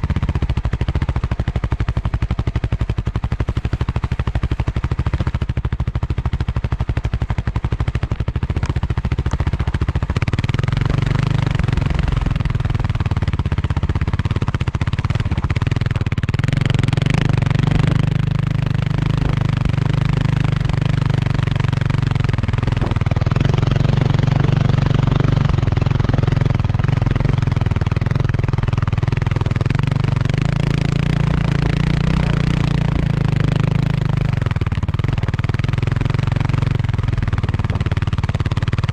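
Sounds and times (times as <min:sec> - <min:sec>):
dirt bike engine chugging: 0:00.0 - 0:38.9.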